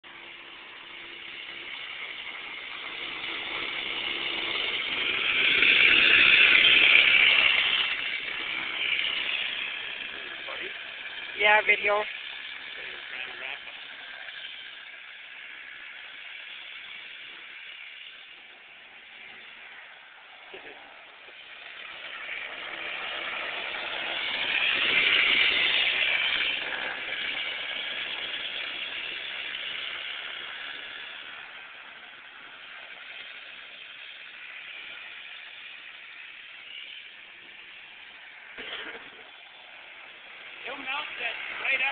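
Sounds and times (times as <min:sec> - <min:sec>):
small kart engine passing: 0:00.0 - 0:41.9.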